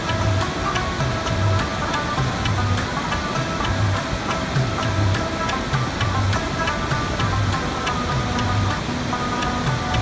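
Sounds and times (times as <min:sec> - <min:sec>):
plucked string melody: 0:00.0 - 0:10.0
waterfall rushing: 0:00.0 - 0:10.0.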